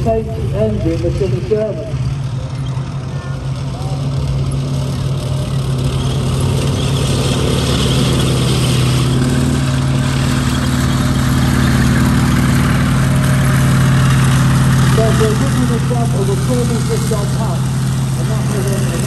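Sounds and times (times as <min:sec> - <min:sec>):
tank engine running: 0:00.0 - 0:19.0.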